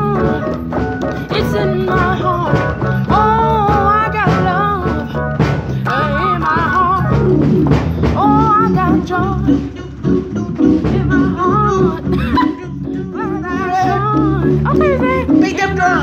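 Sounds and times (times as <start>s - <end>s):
person singing wordless runs: 0.0s - 7.4s, 8.1s - 16.0s
gospel organ playing chords: 0.0s - 16.0s.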